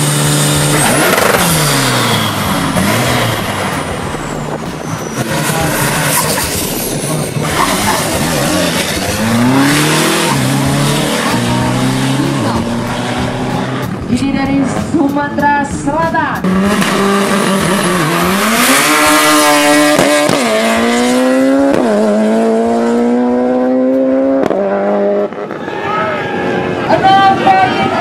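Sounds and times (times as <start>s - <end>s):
diesel truck engines revving: 0.0s - 28.0s.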